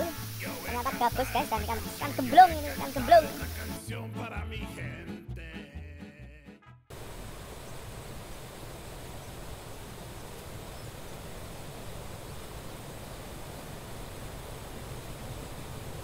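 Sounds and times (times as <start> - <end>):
river hiss: 0.0 - 3.9, 6.9 - 16.0.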